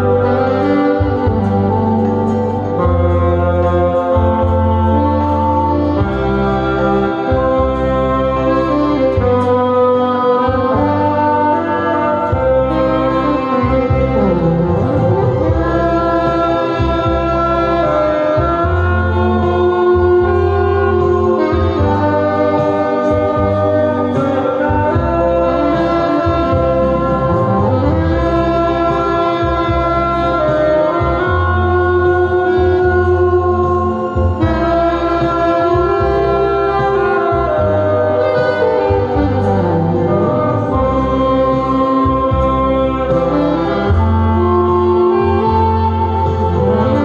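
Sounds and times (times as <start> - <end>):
amplified backing music: 0.0 - 47.0
low bass line: 0.0 - 47.0
saxophone playing slow melody: 0.0 - 47.0.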